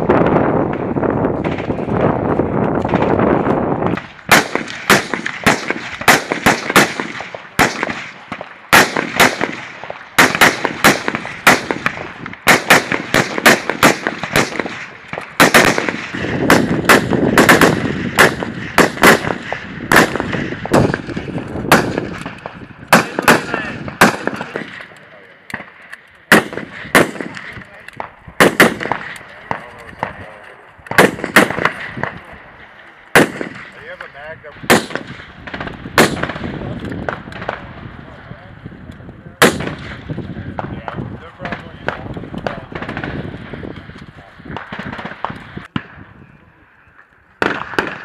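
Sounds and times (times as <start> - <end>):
rifle shots with echo: 0.6 - 2.2, 2.8 - 38.2, 39.3 - 46.1, 47.4 - 48.0.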